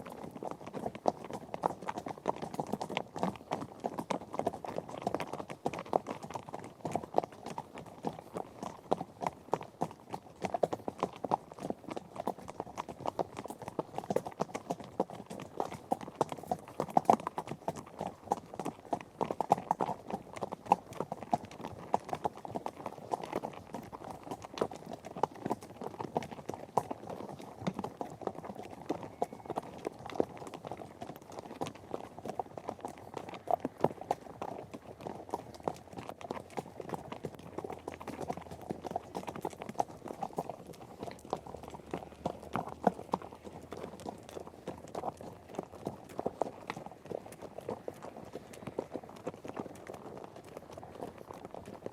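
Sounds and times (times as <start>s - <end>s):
horse hooves galloping: 0.0s - 51.9s.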